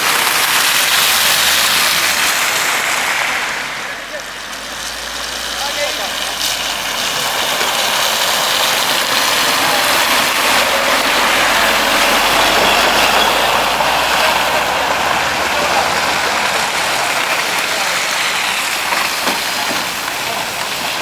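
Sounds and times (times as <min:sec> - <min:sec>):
heavy vehicle rushing noise: 0:00.0 - 0:21.0.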